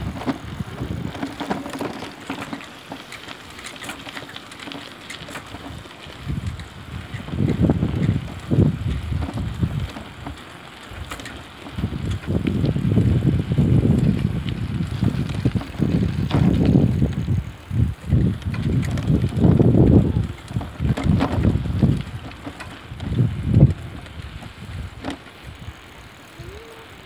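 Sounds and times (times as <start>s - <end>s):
wind buffeting microphone: 0.0s - 2.6s, 5.3s - 27.0s
faint bicycle clicks: 0.0s - 27.0s.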